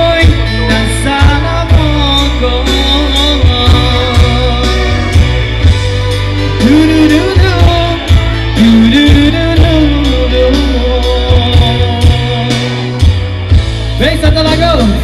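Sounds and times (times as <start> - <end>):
heavy bass: 0.0 - 15.0
live pop band with male singer: 0.0 - 15.0
steady drum beat: 0.0 - 15.0.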